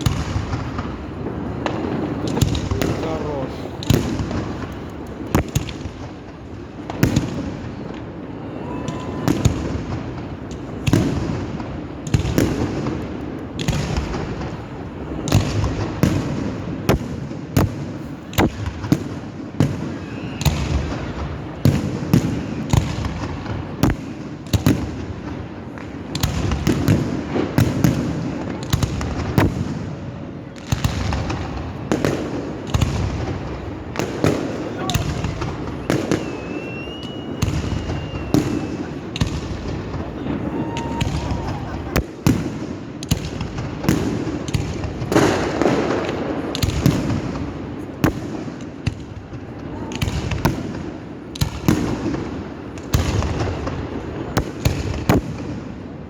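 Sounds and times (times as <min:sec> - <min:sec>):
fireworks bursting with sharp bangs: 0:00.0 - 0:56.0.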